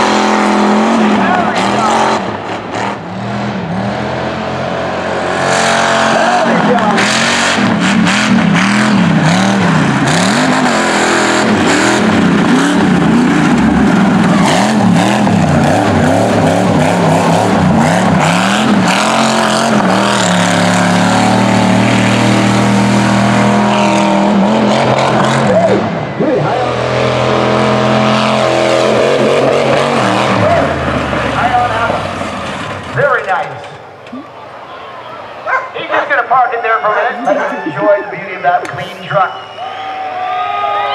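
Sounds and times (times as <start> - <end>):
truck engine revving: 0.0 - 34.4.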